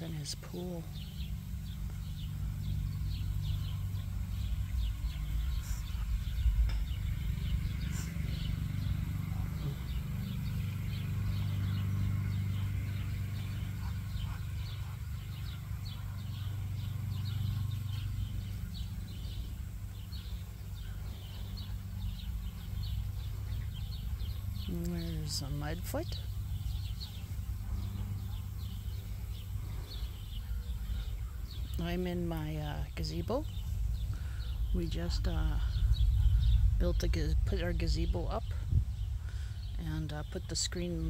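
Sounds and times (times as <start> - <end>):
small birds chirping: 0.0 - 41.0
steady low rumble: 0.0 - 41.0.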